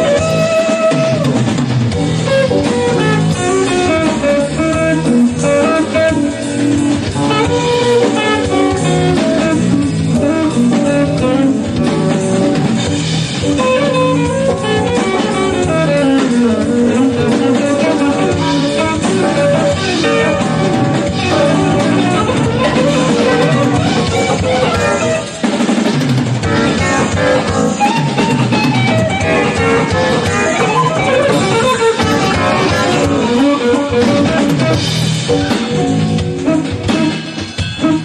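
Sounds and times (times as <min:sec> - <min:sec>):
bass: 0:00.0 - 0:38.0
drum kit: 0:00.0 - 0:38.0
guitar lead line: 0:00.0 - 0:38.0.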